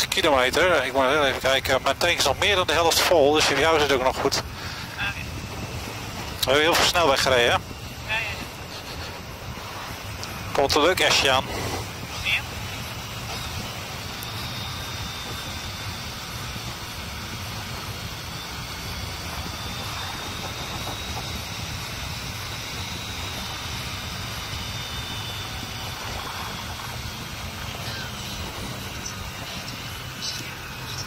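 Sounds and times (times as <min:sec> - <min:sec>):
motorcycle engine droning: 0:00.0 - 0:31.0.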